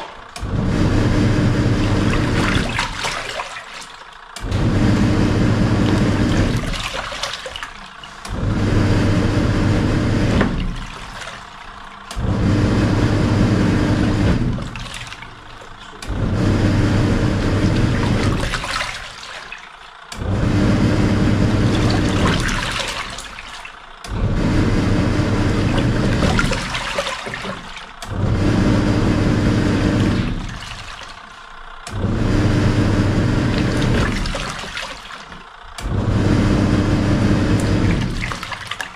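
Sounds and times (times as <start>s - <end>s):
washing machine churning water: 0.0s - 38.9s.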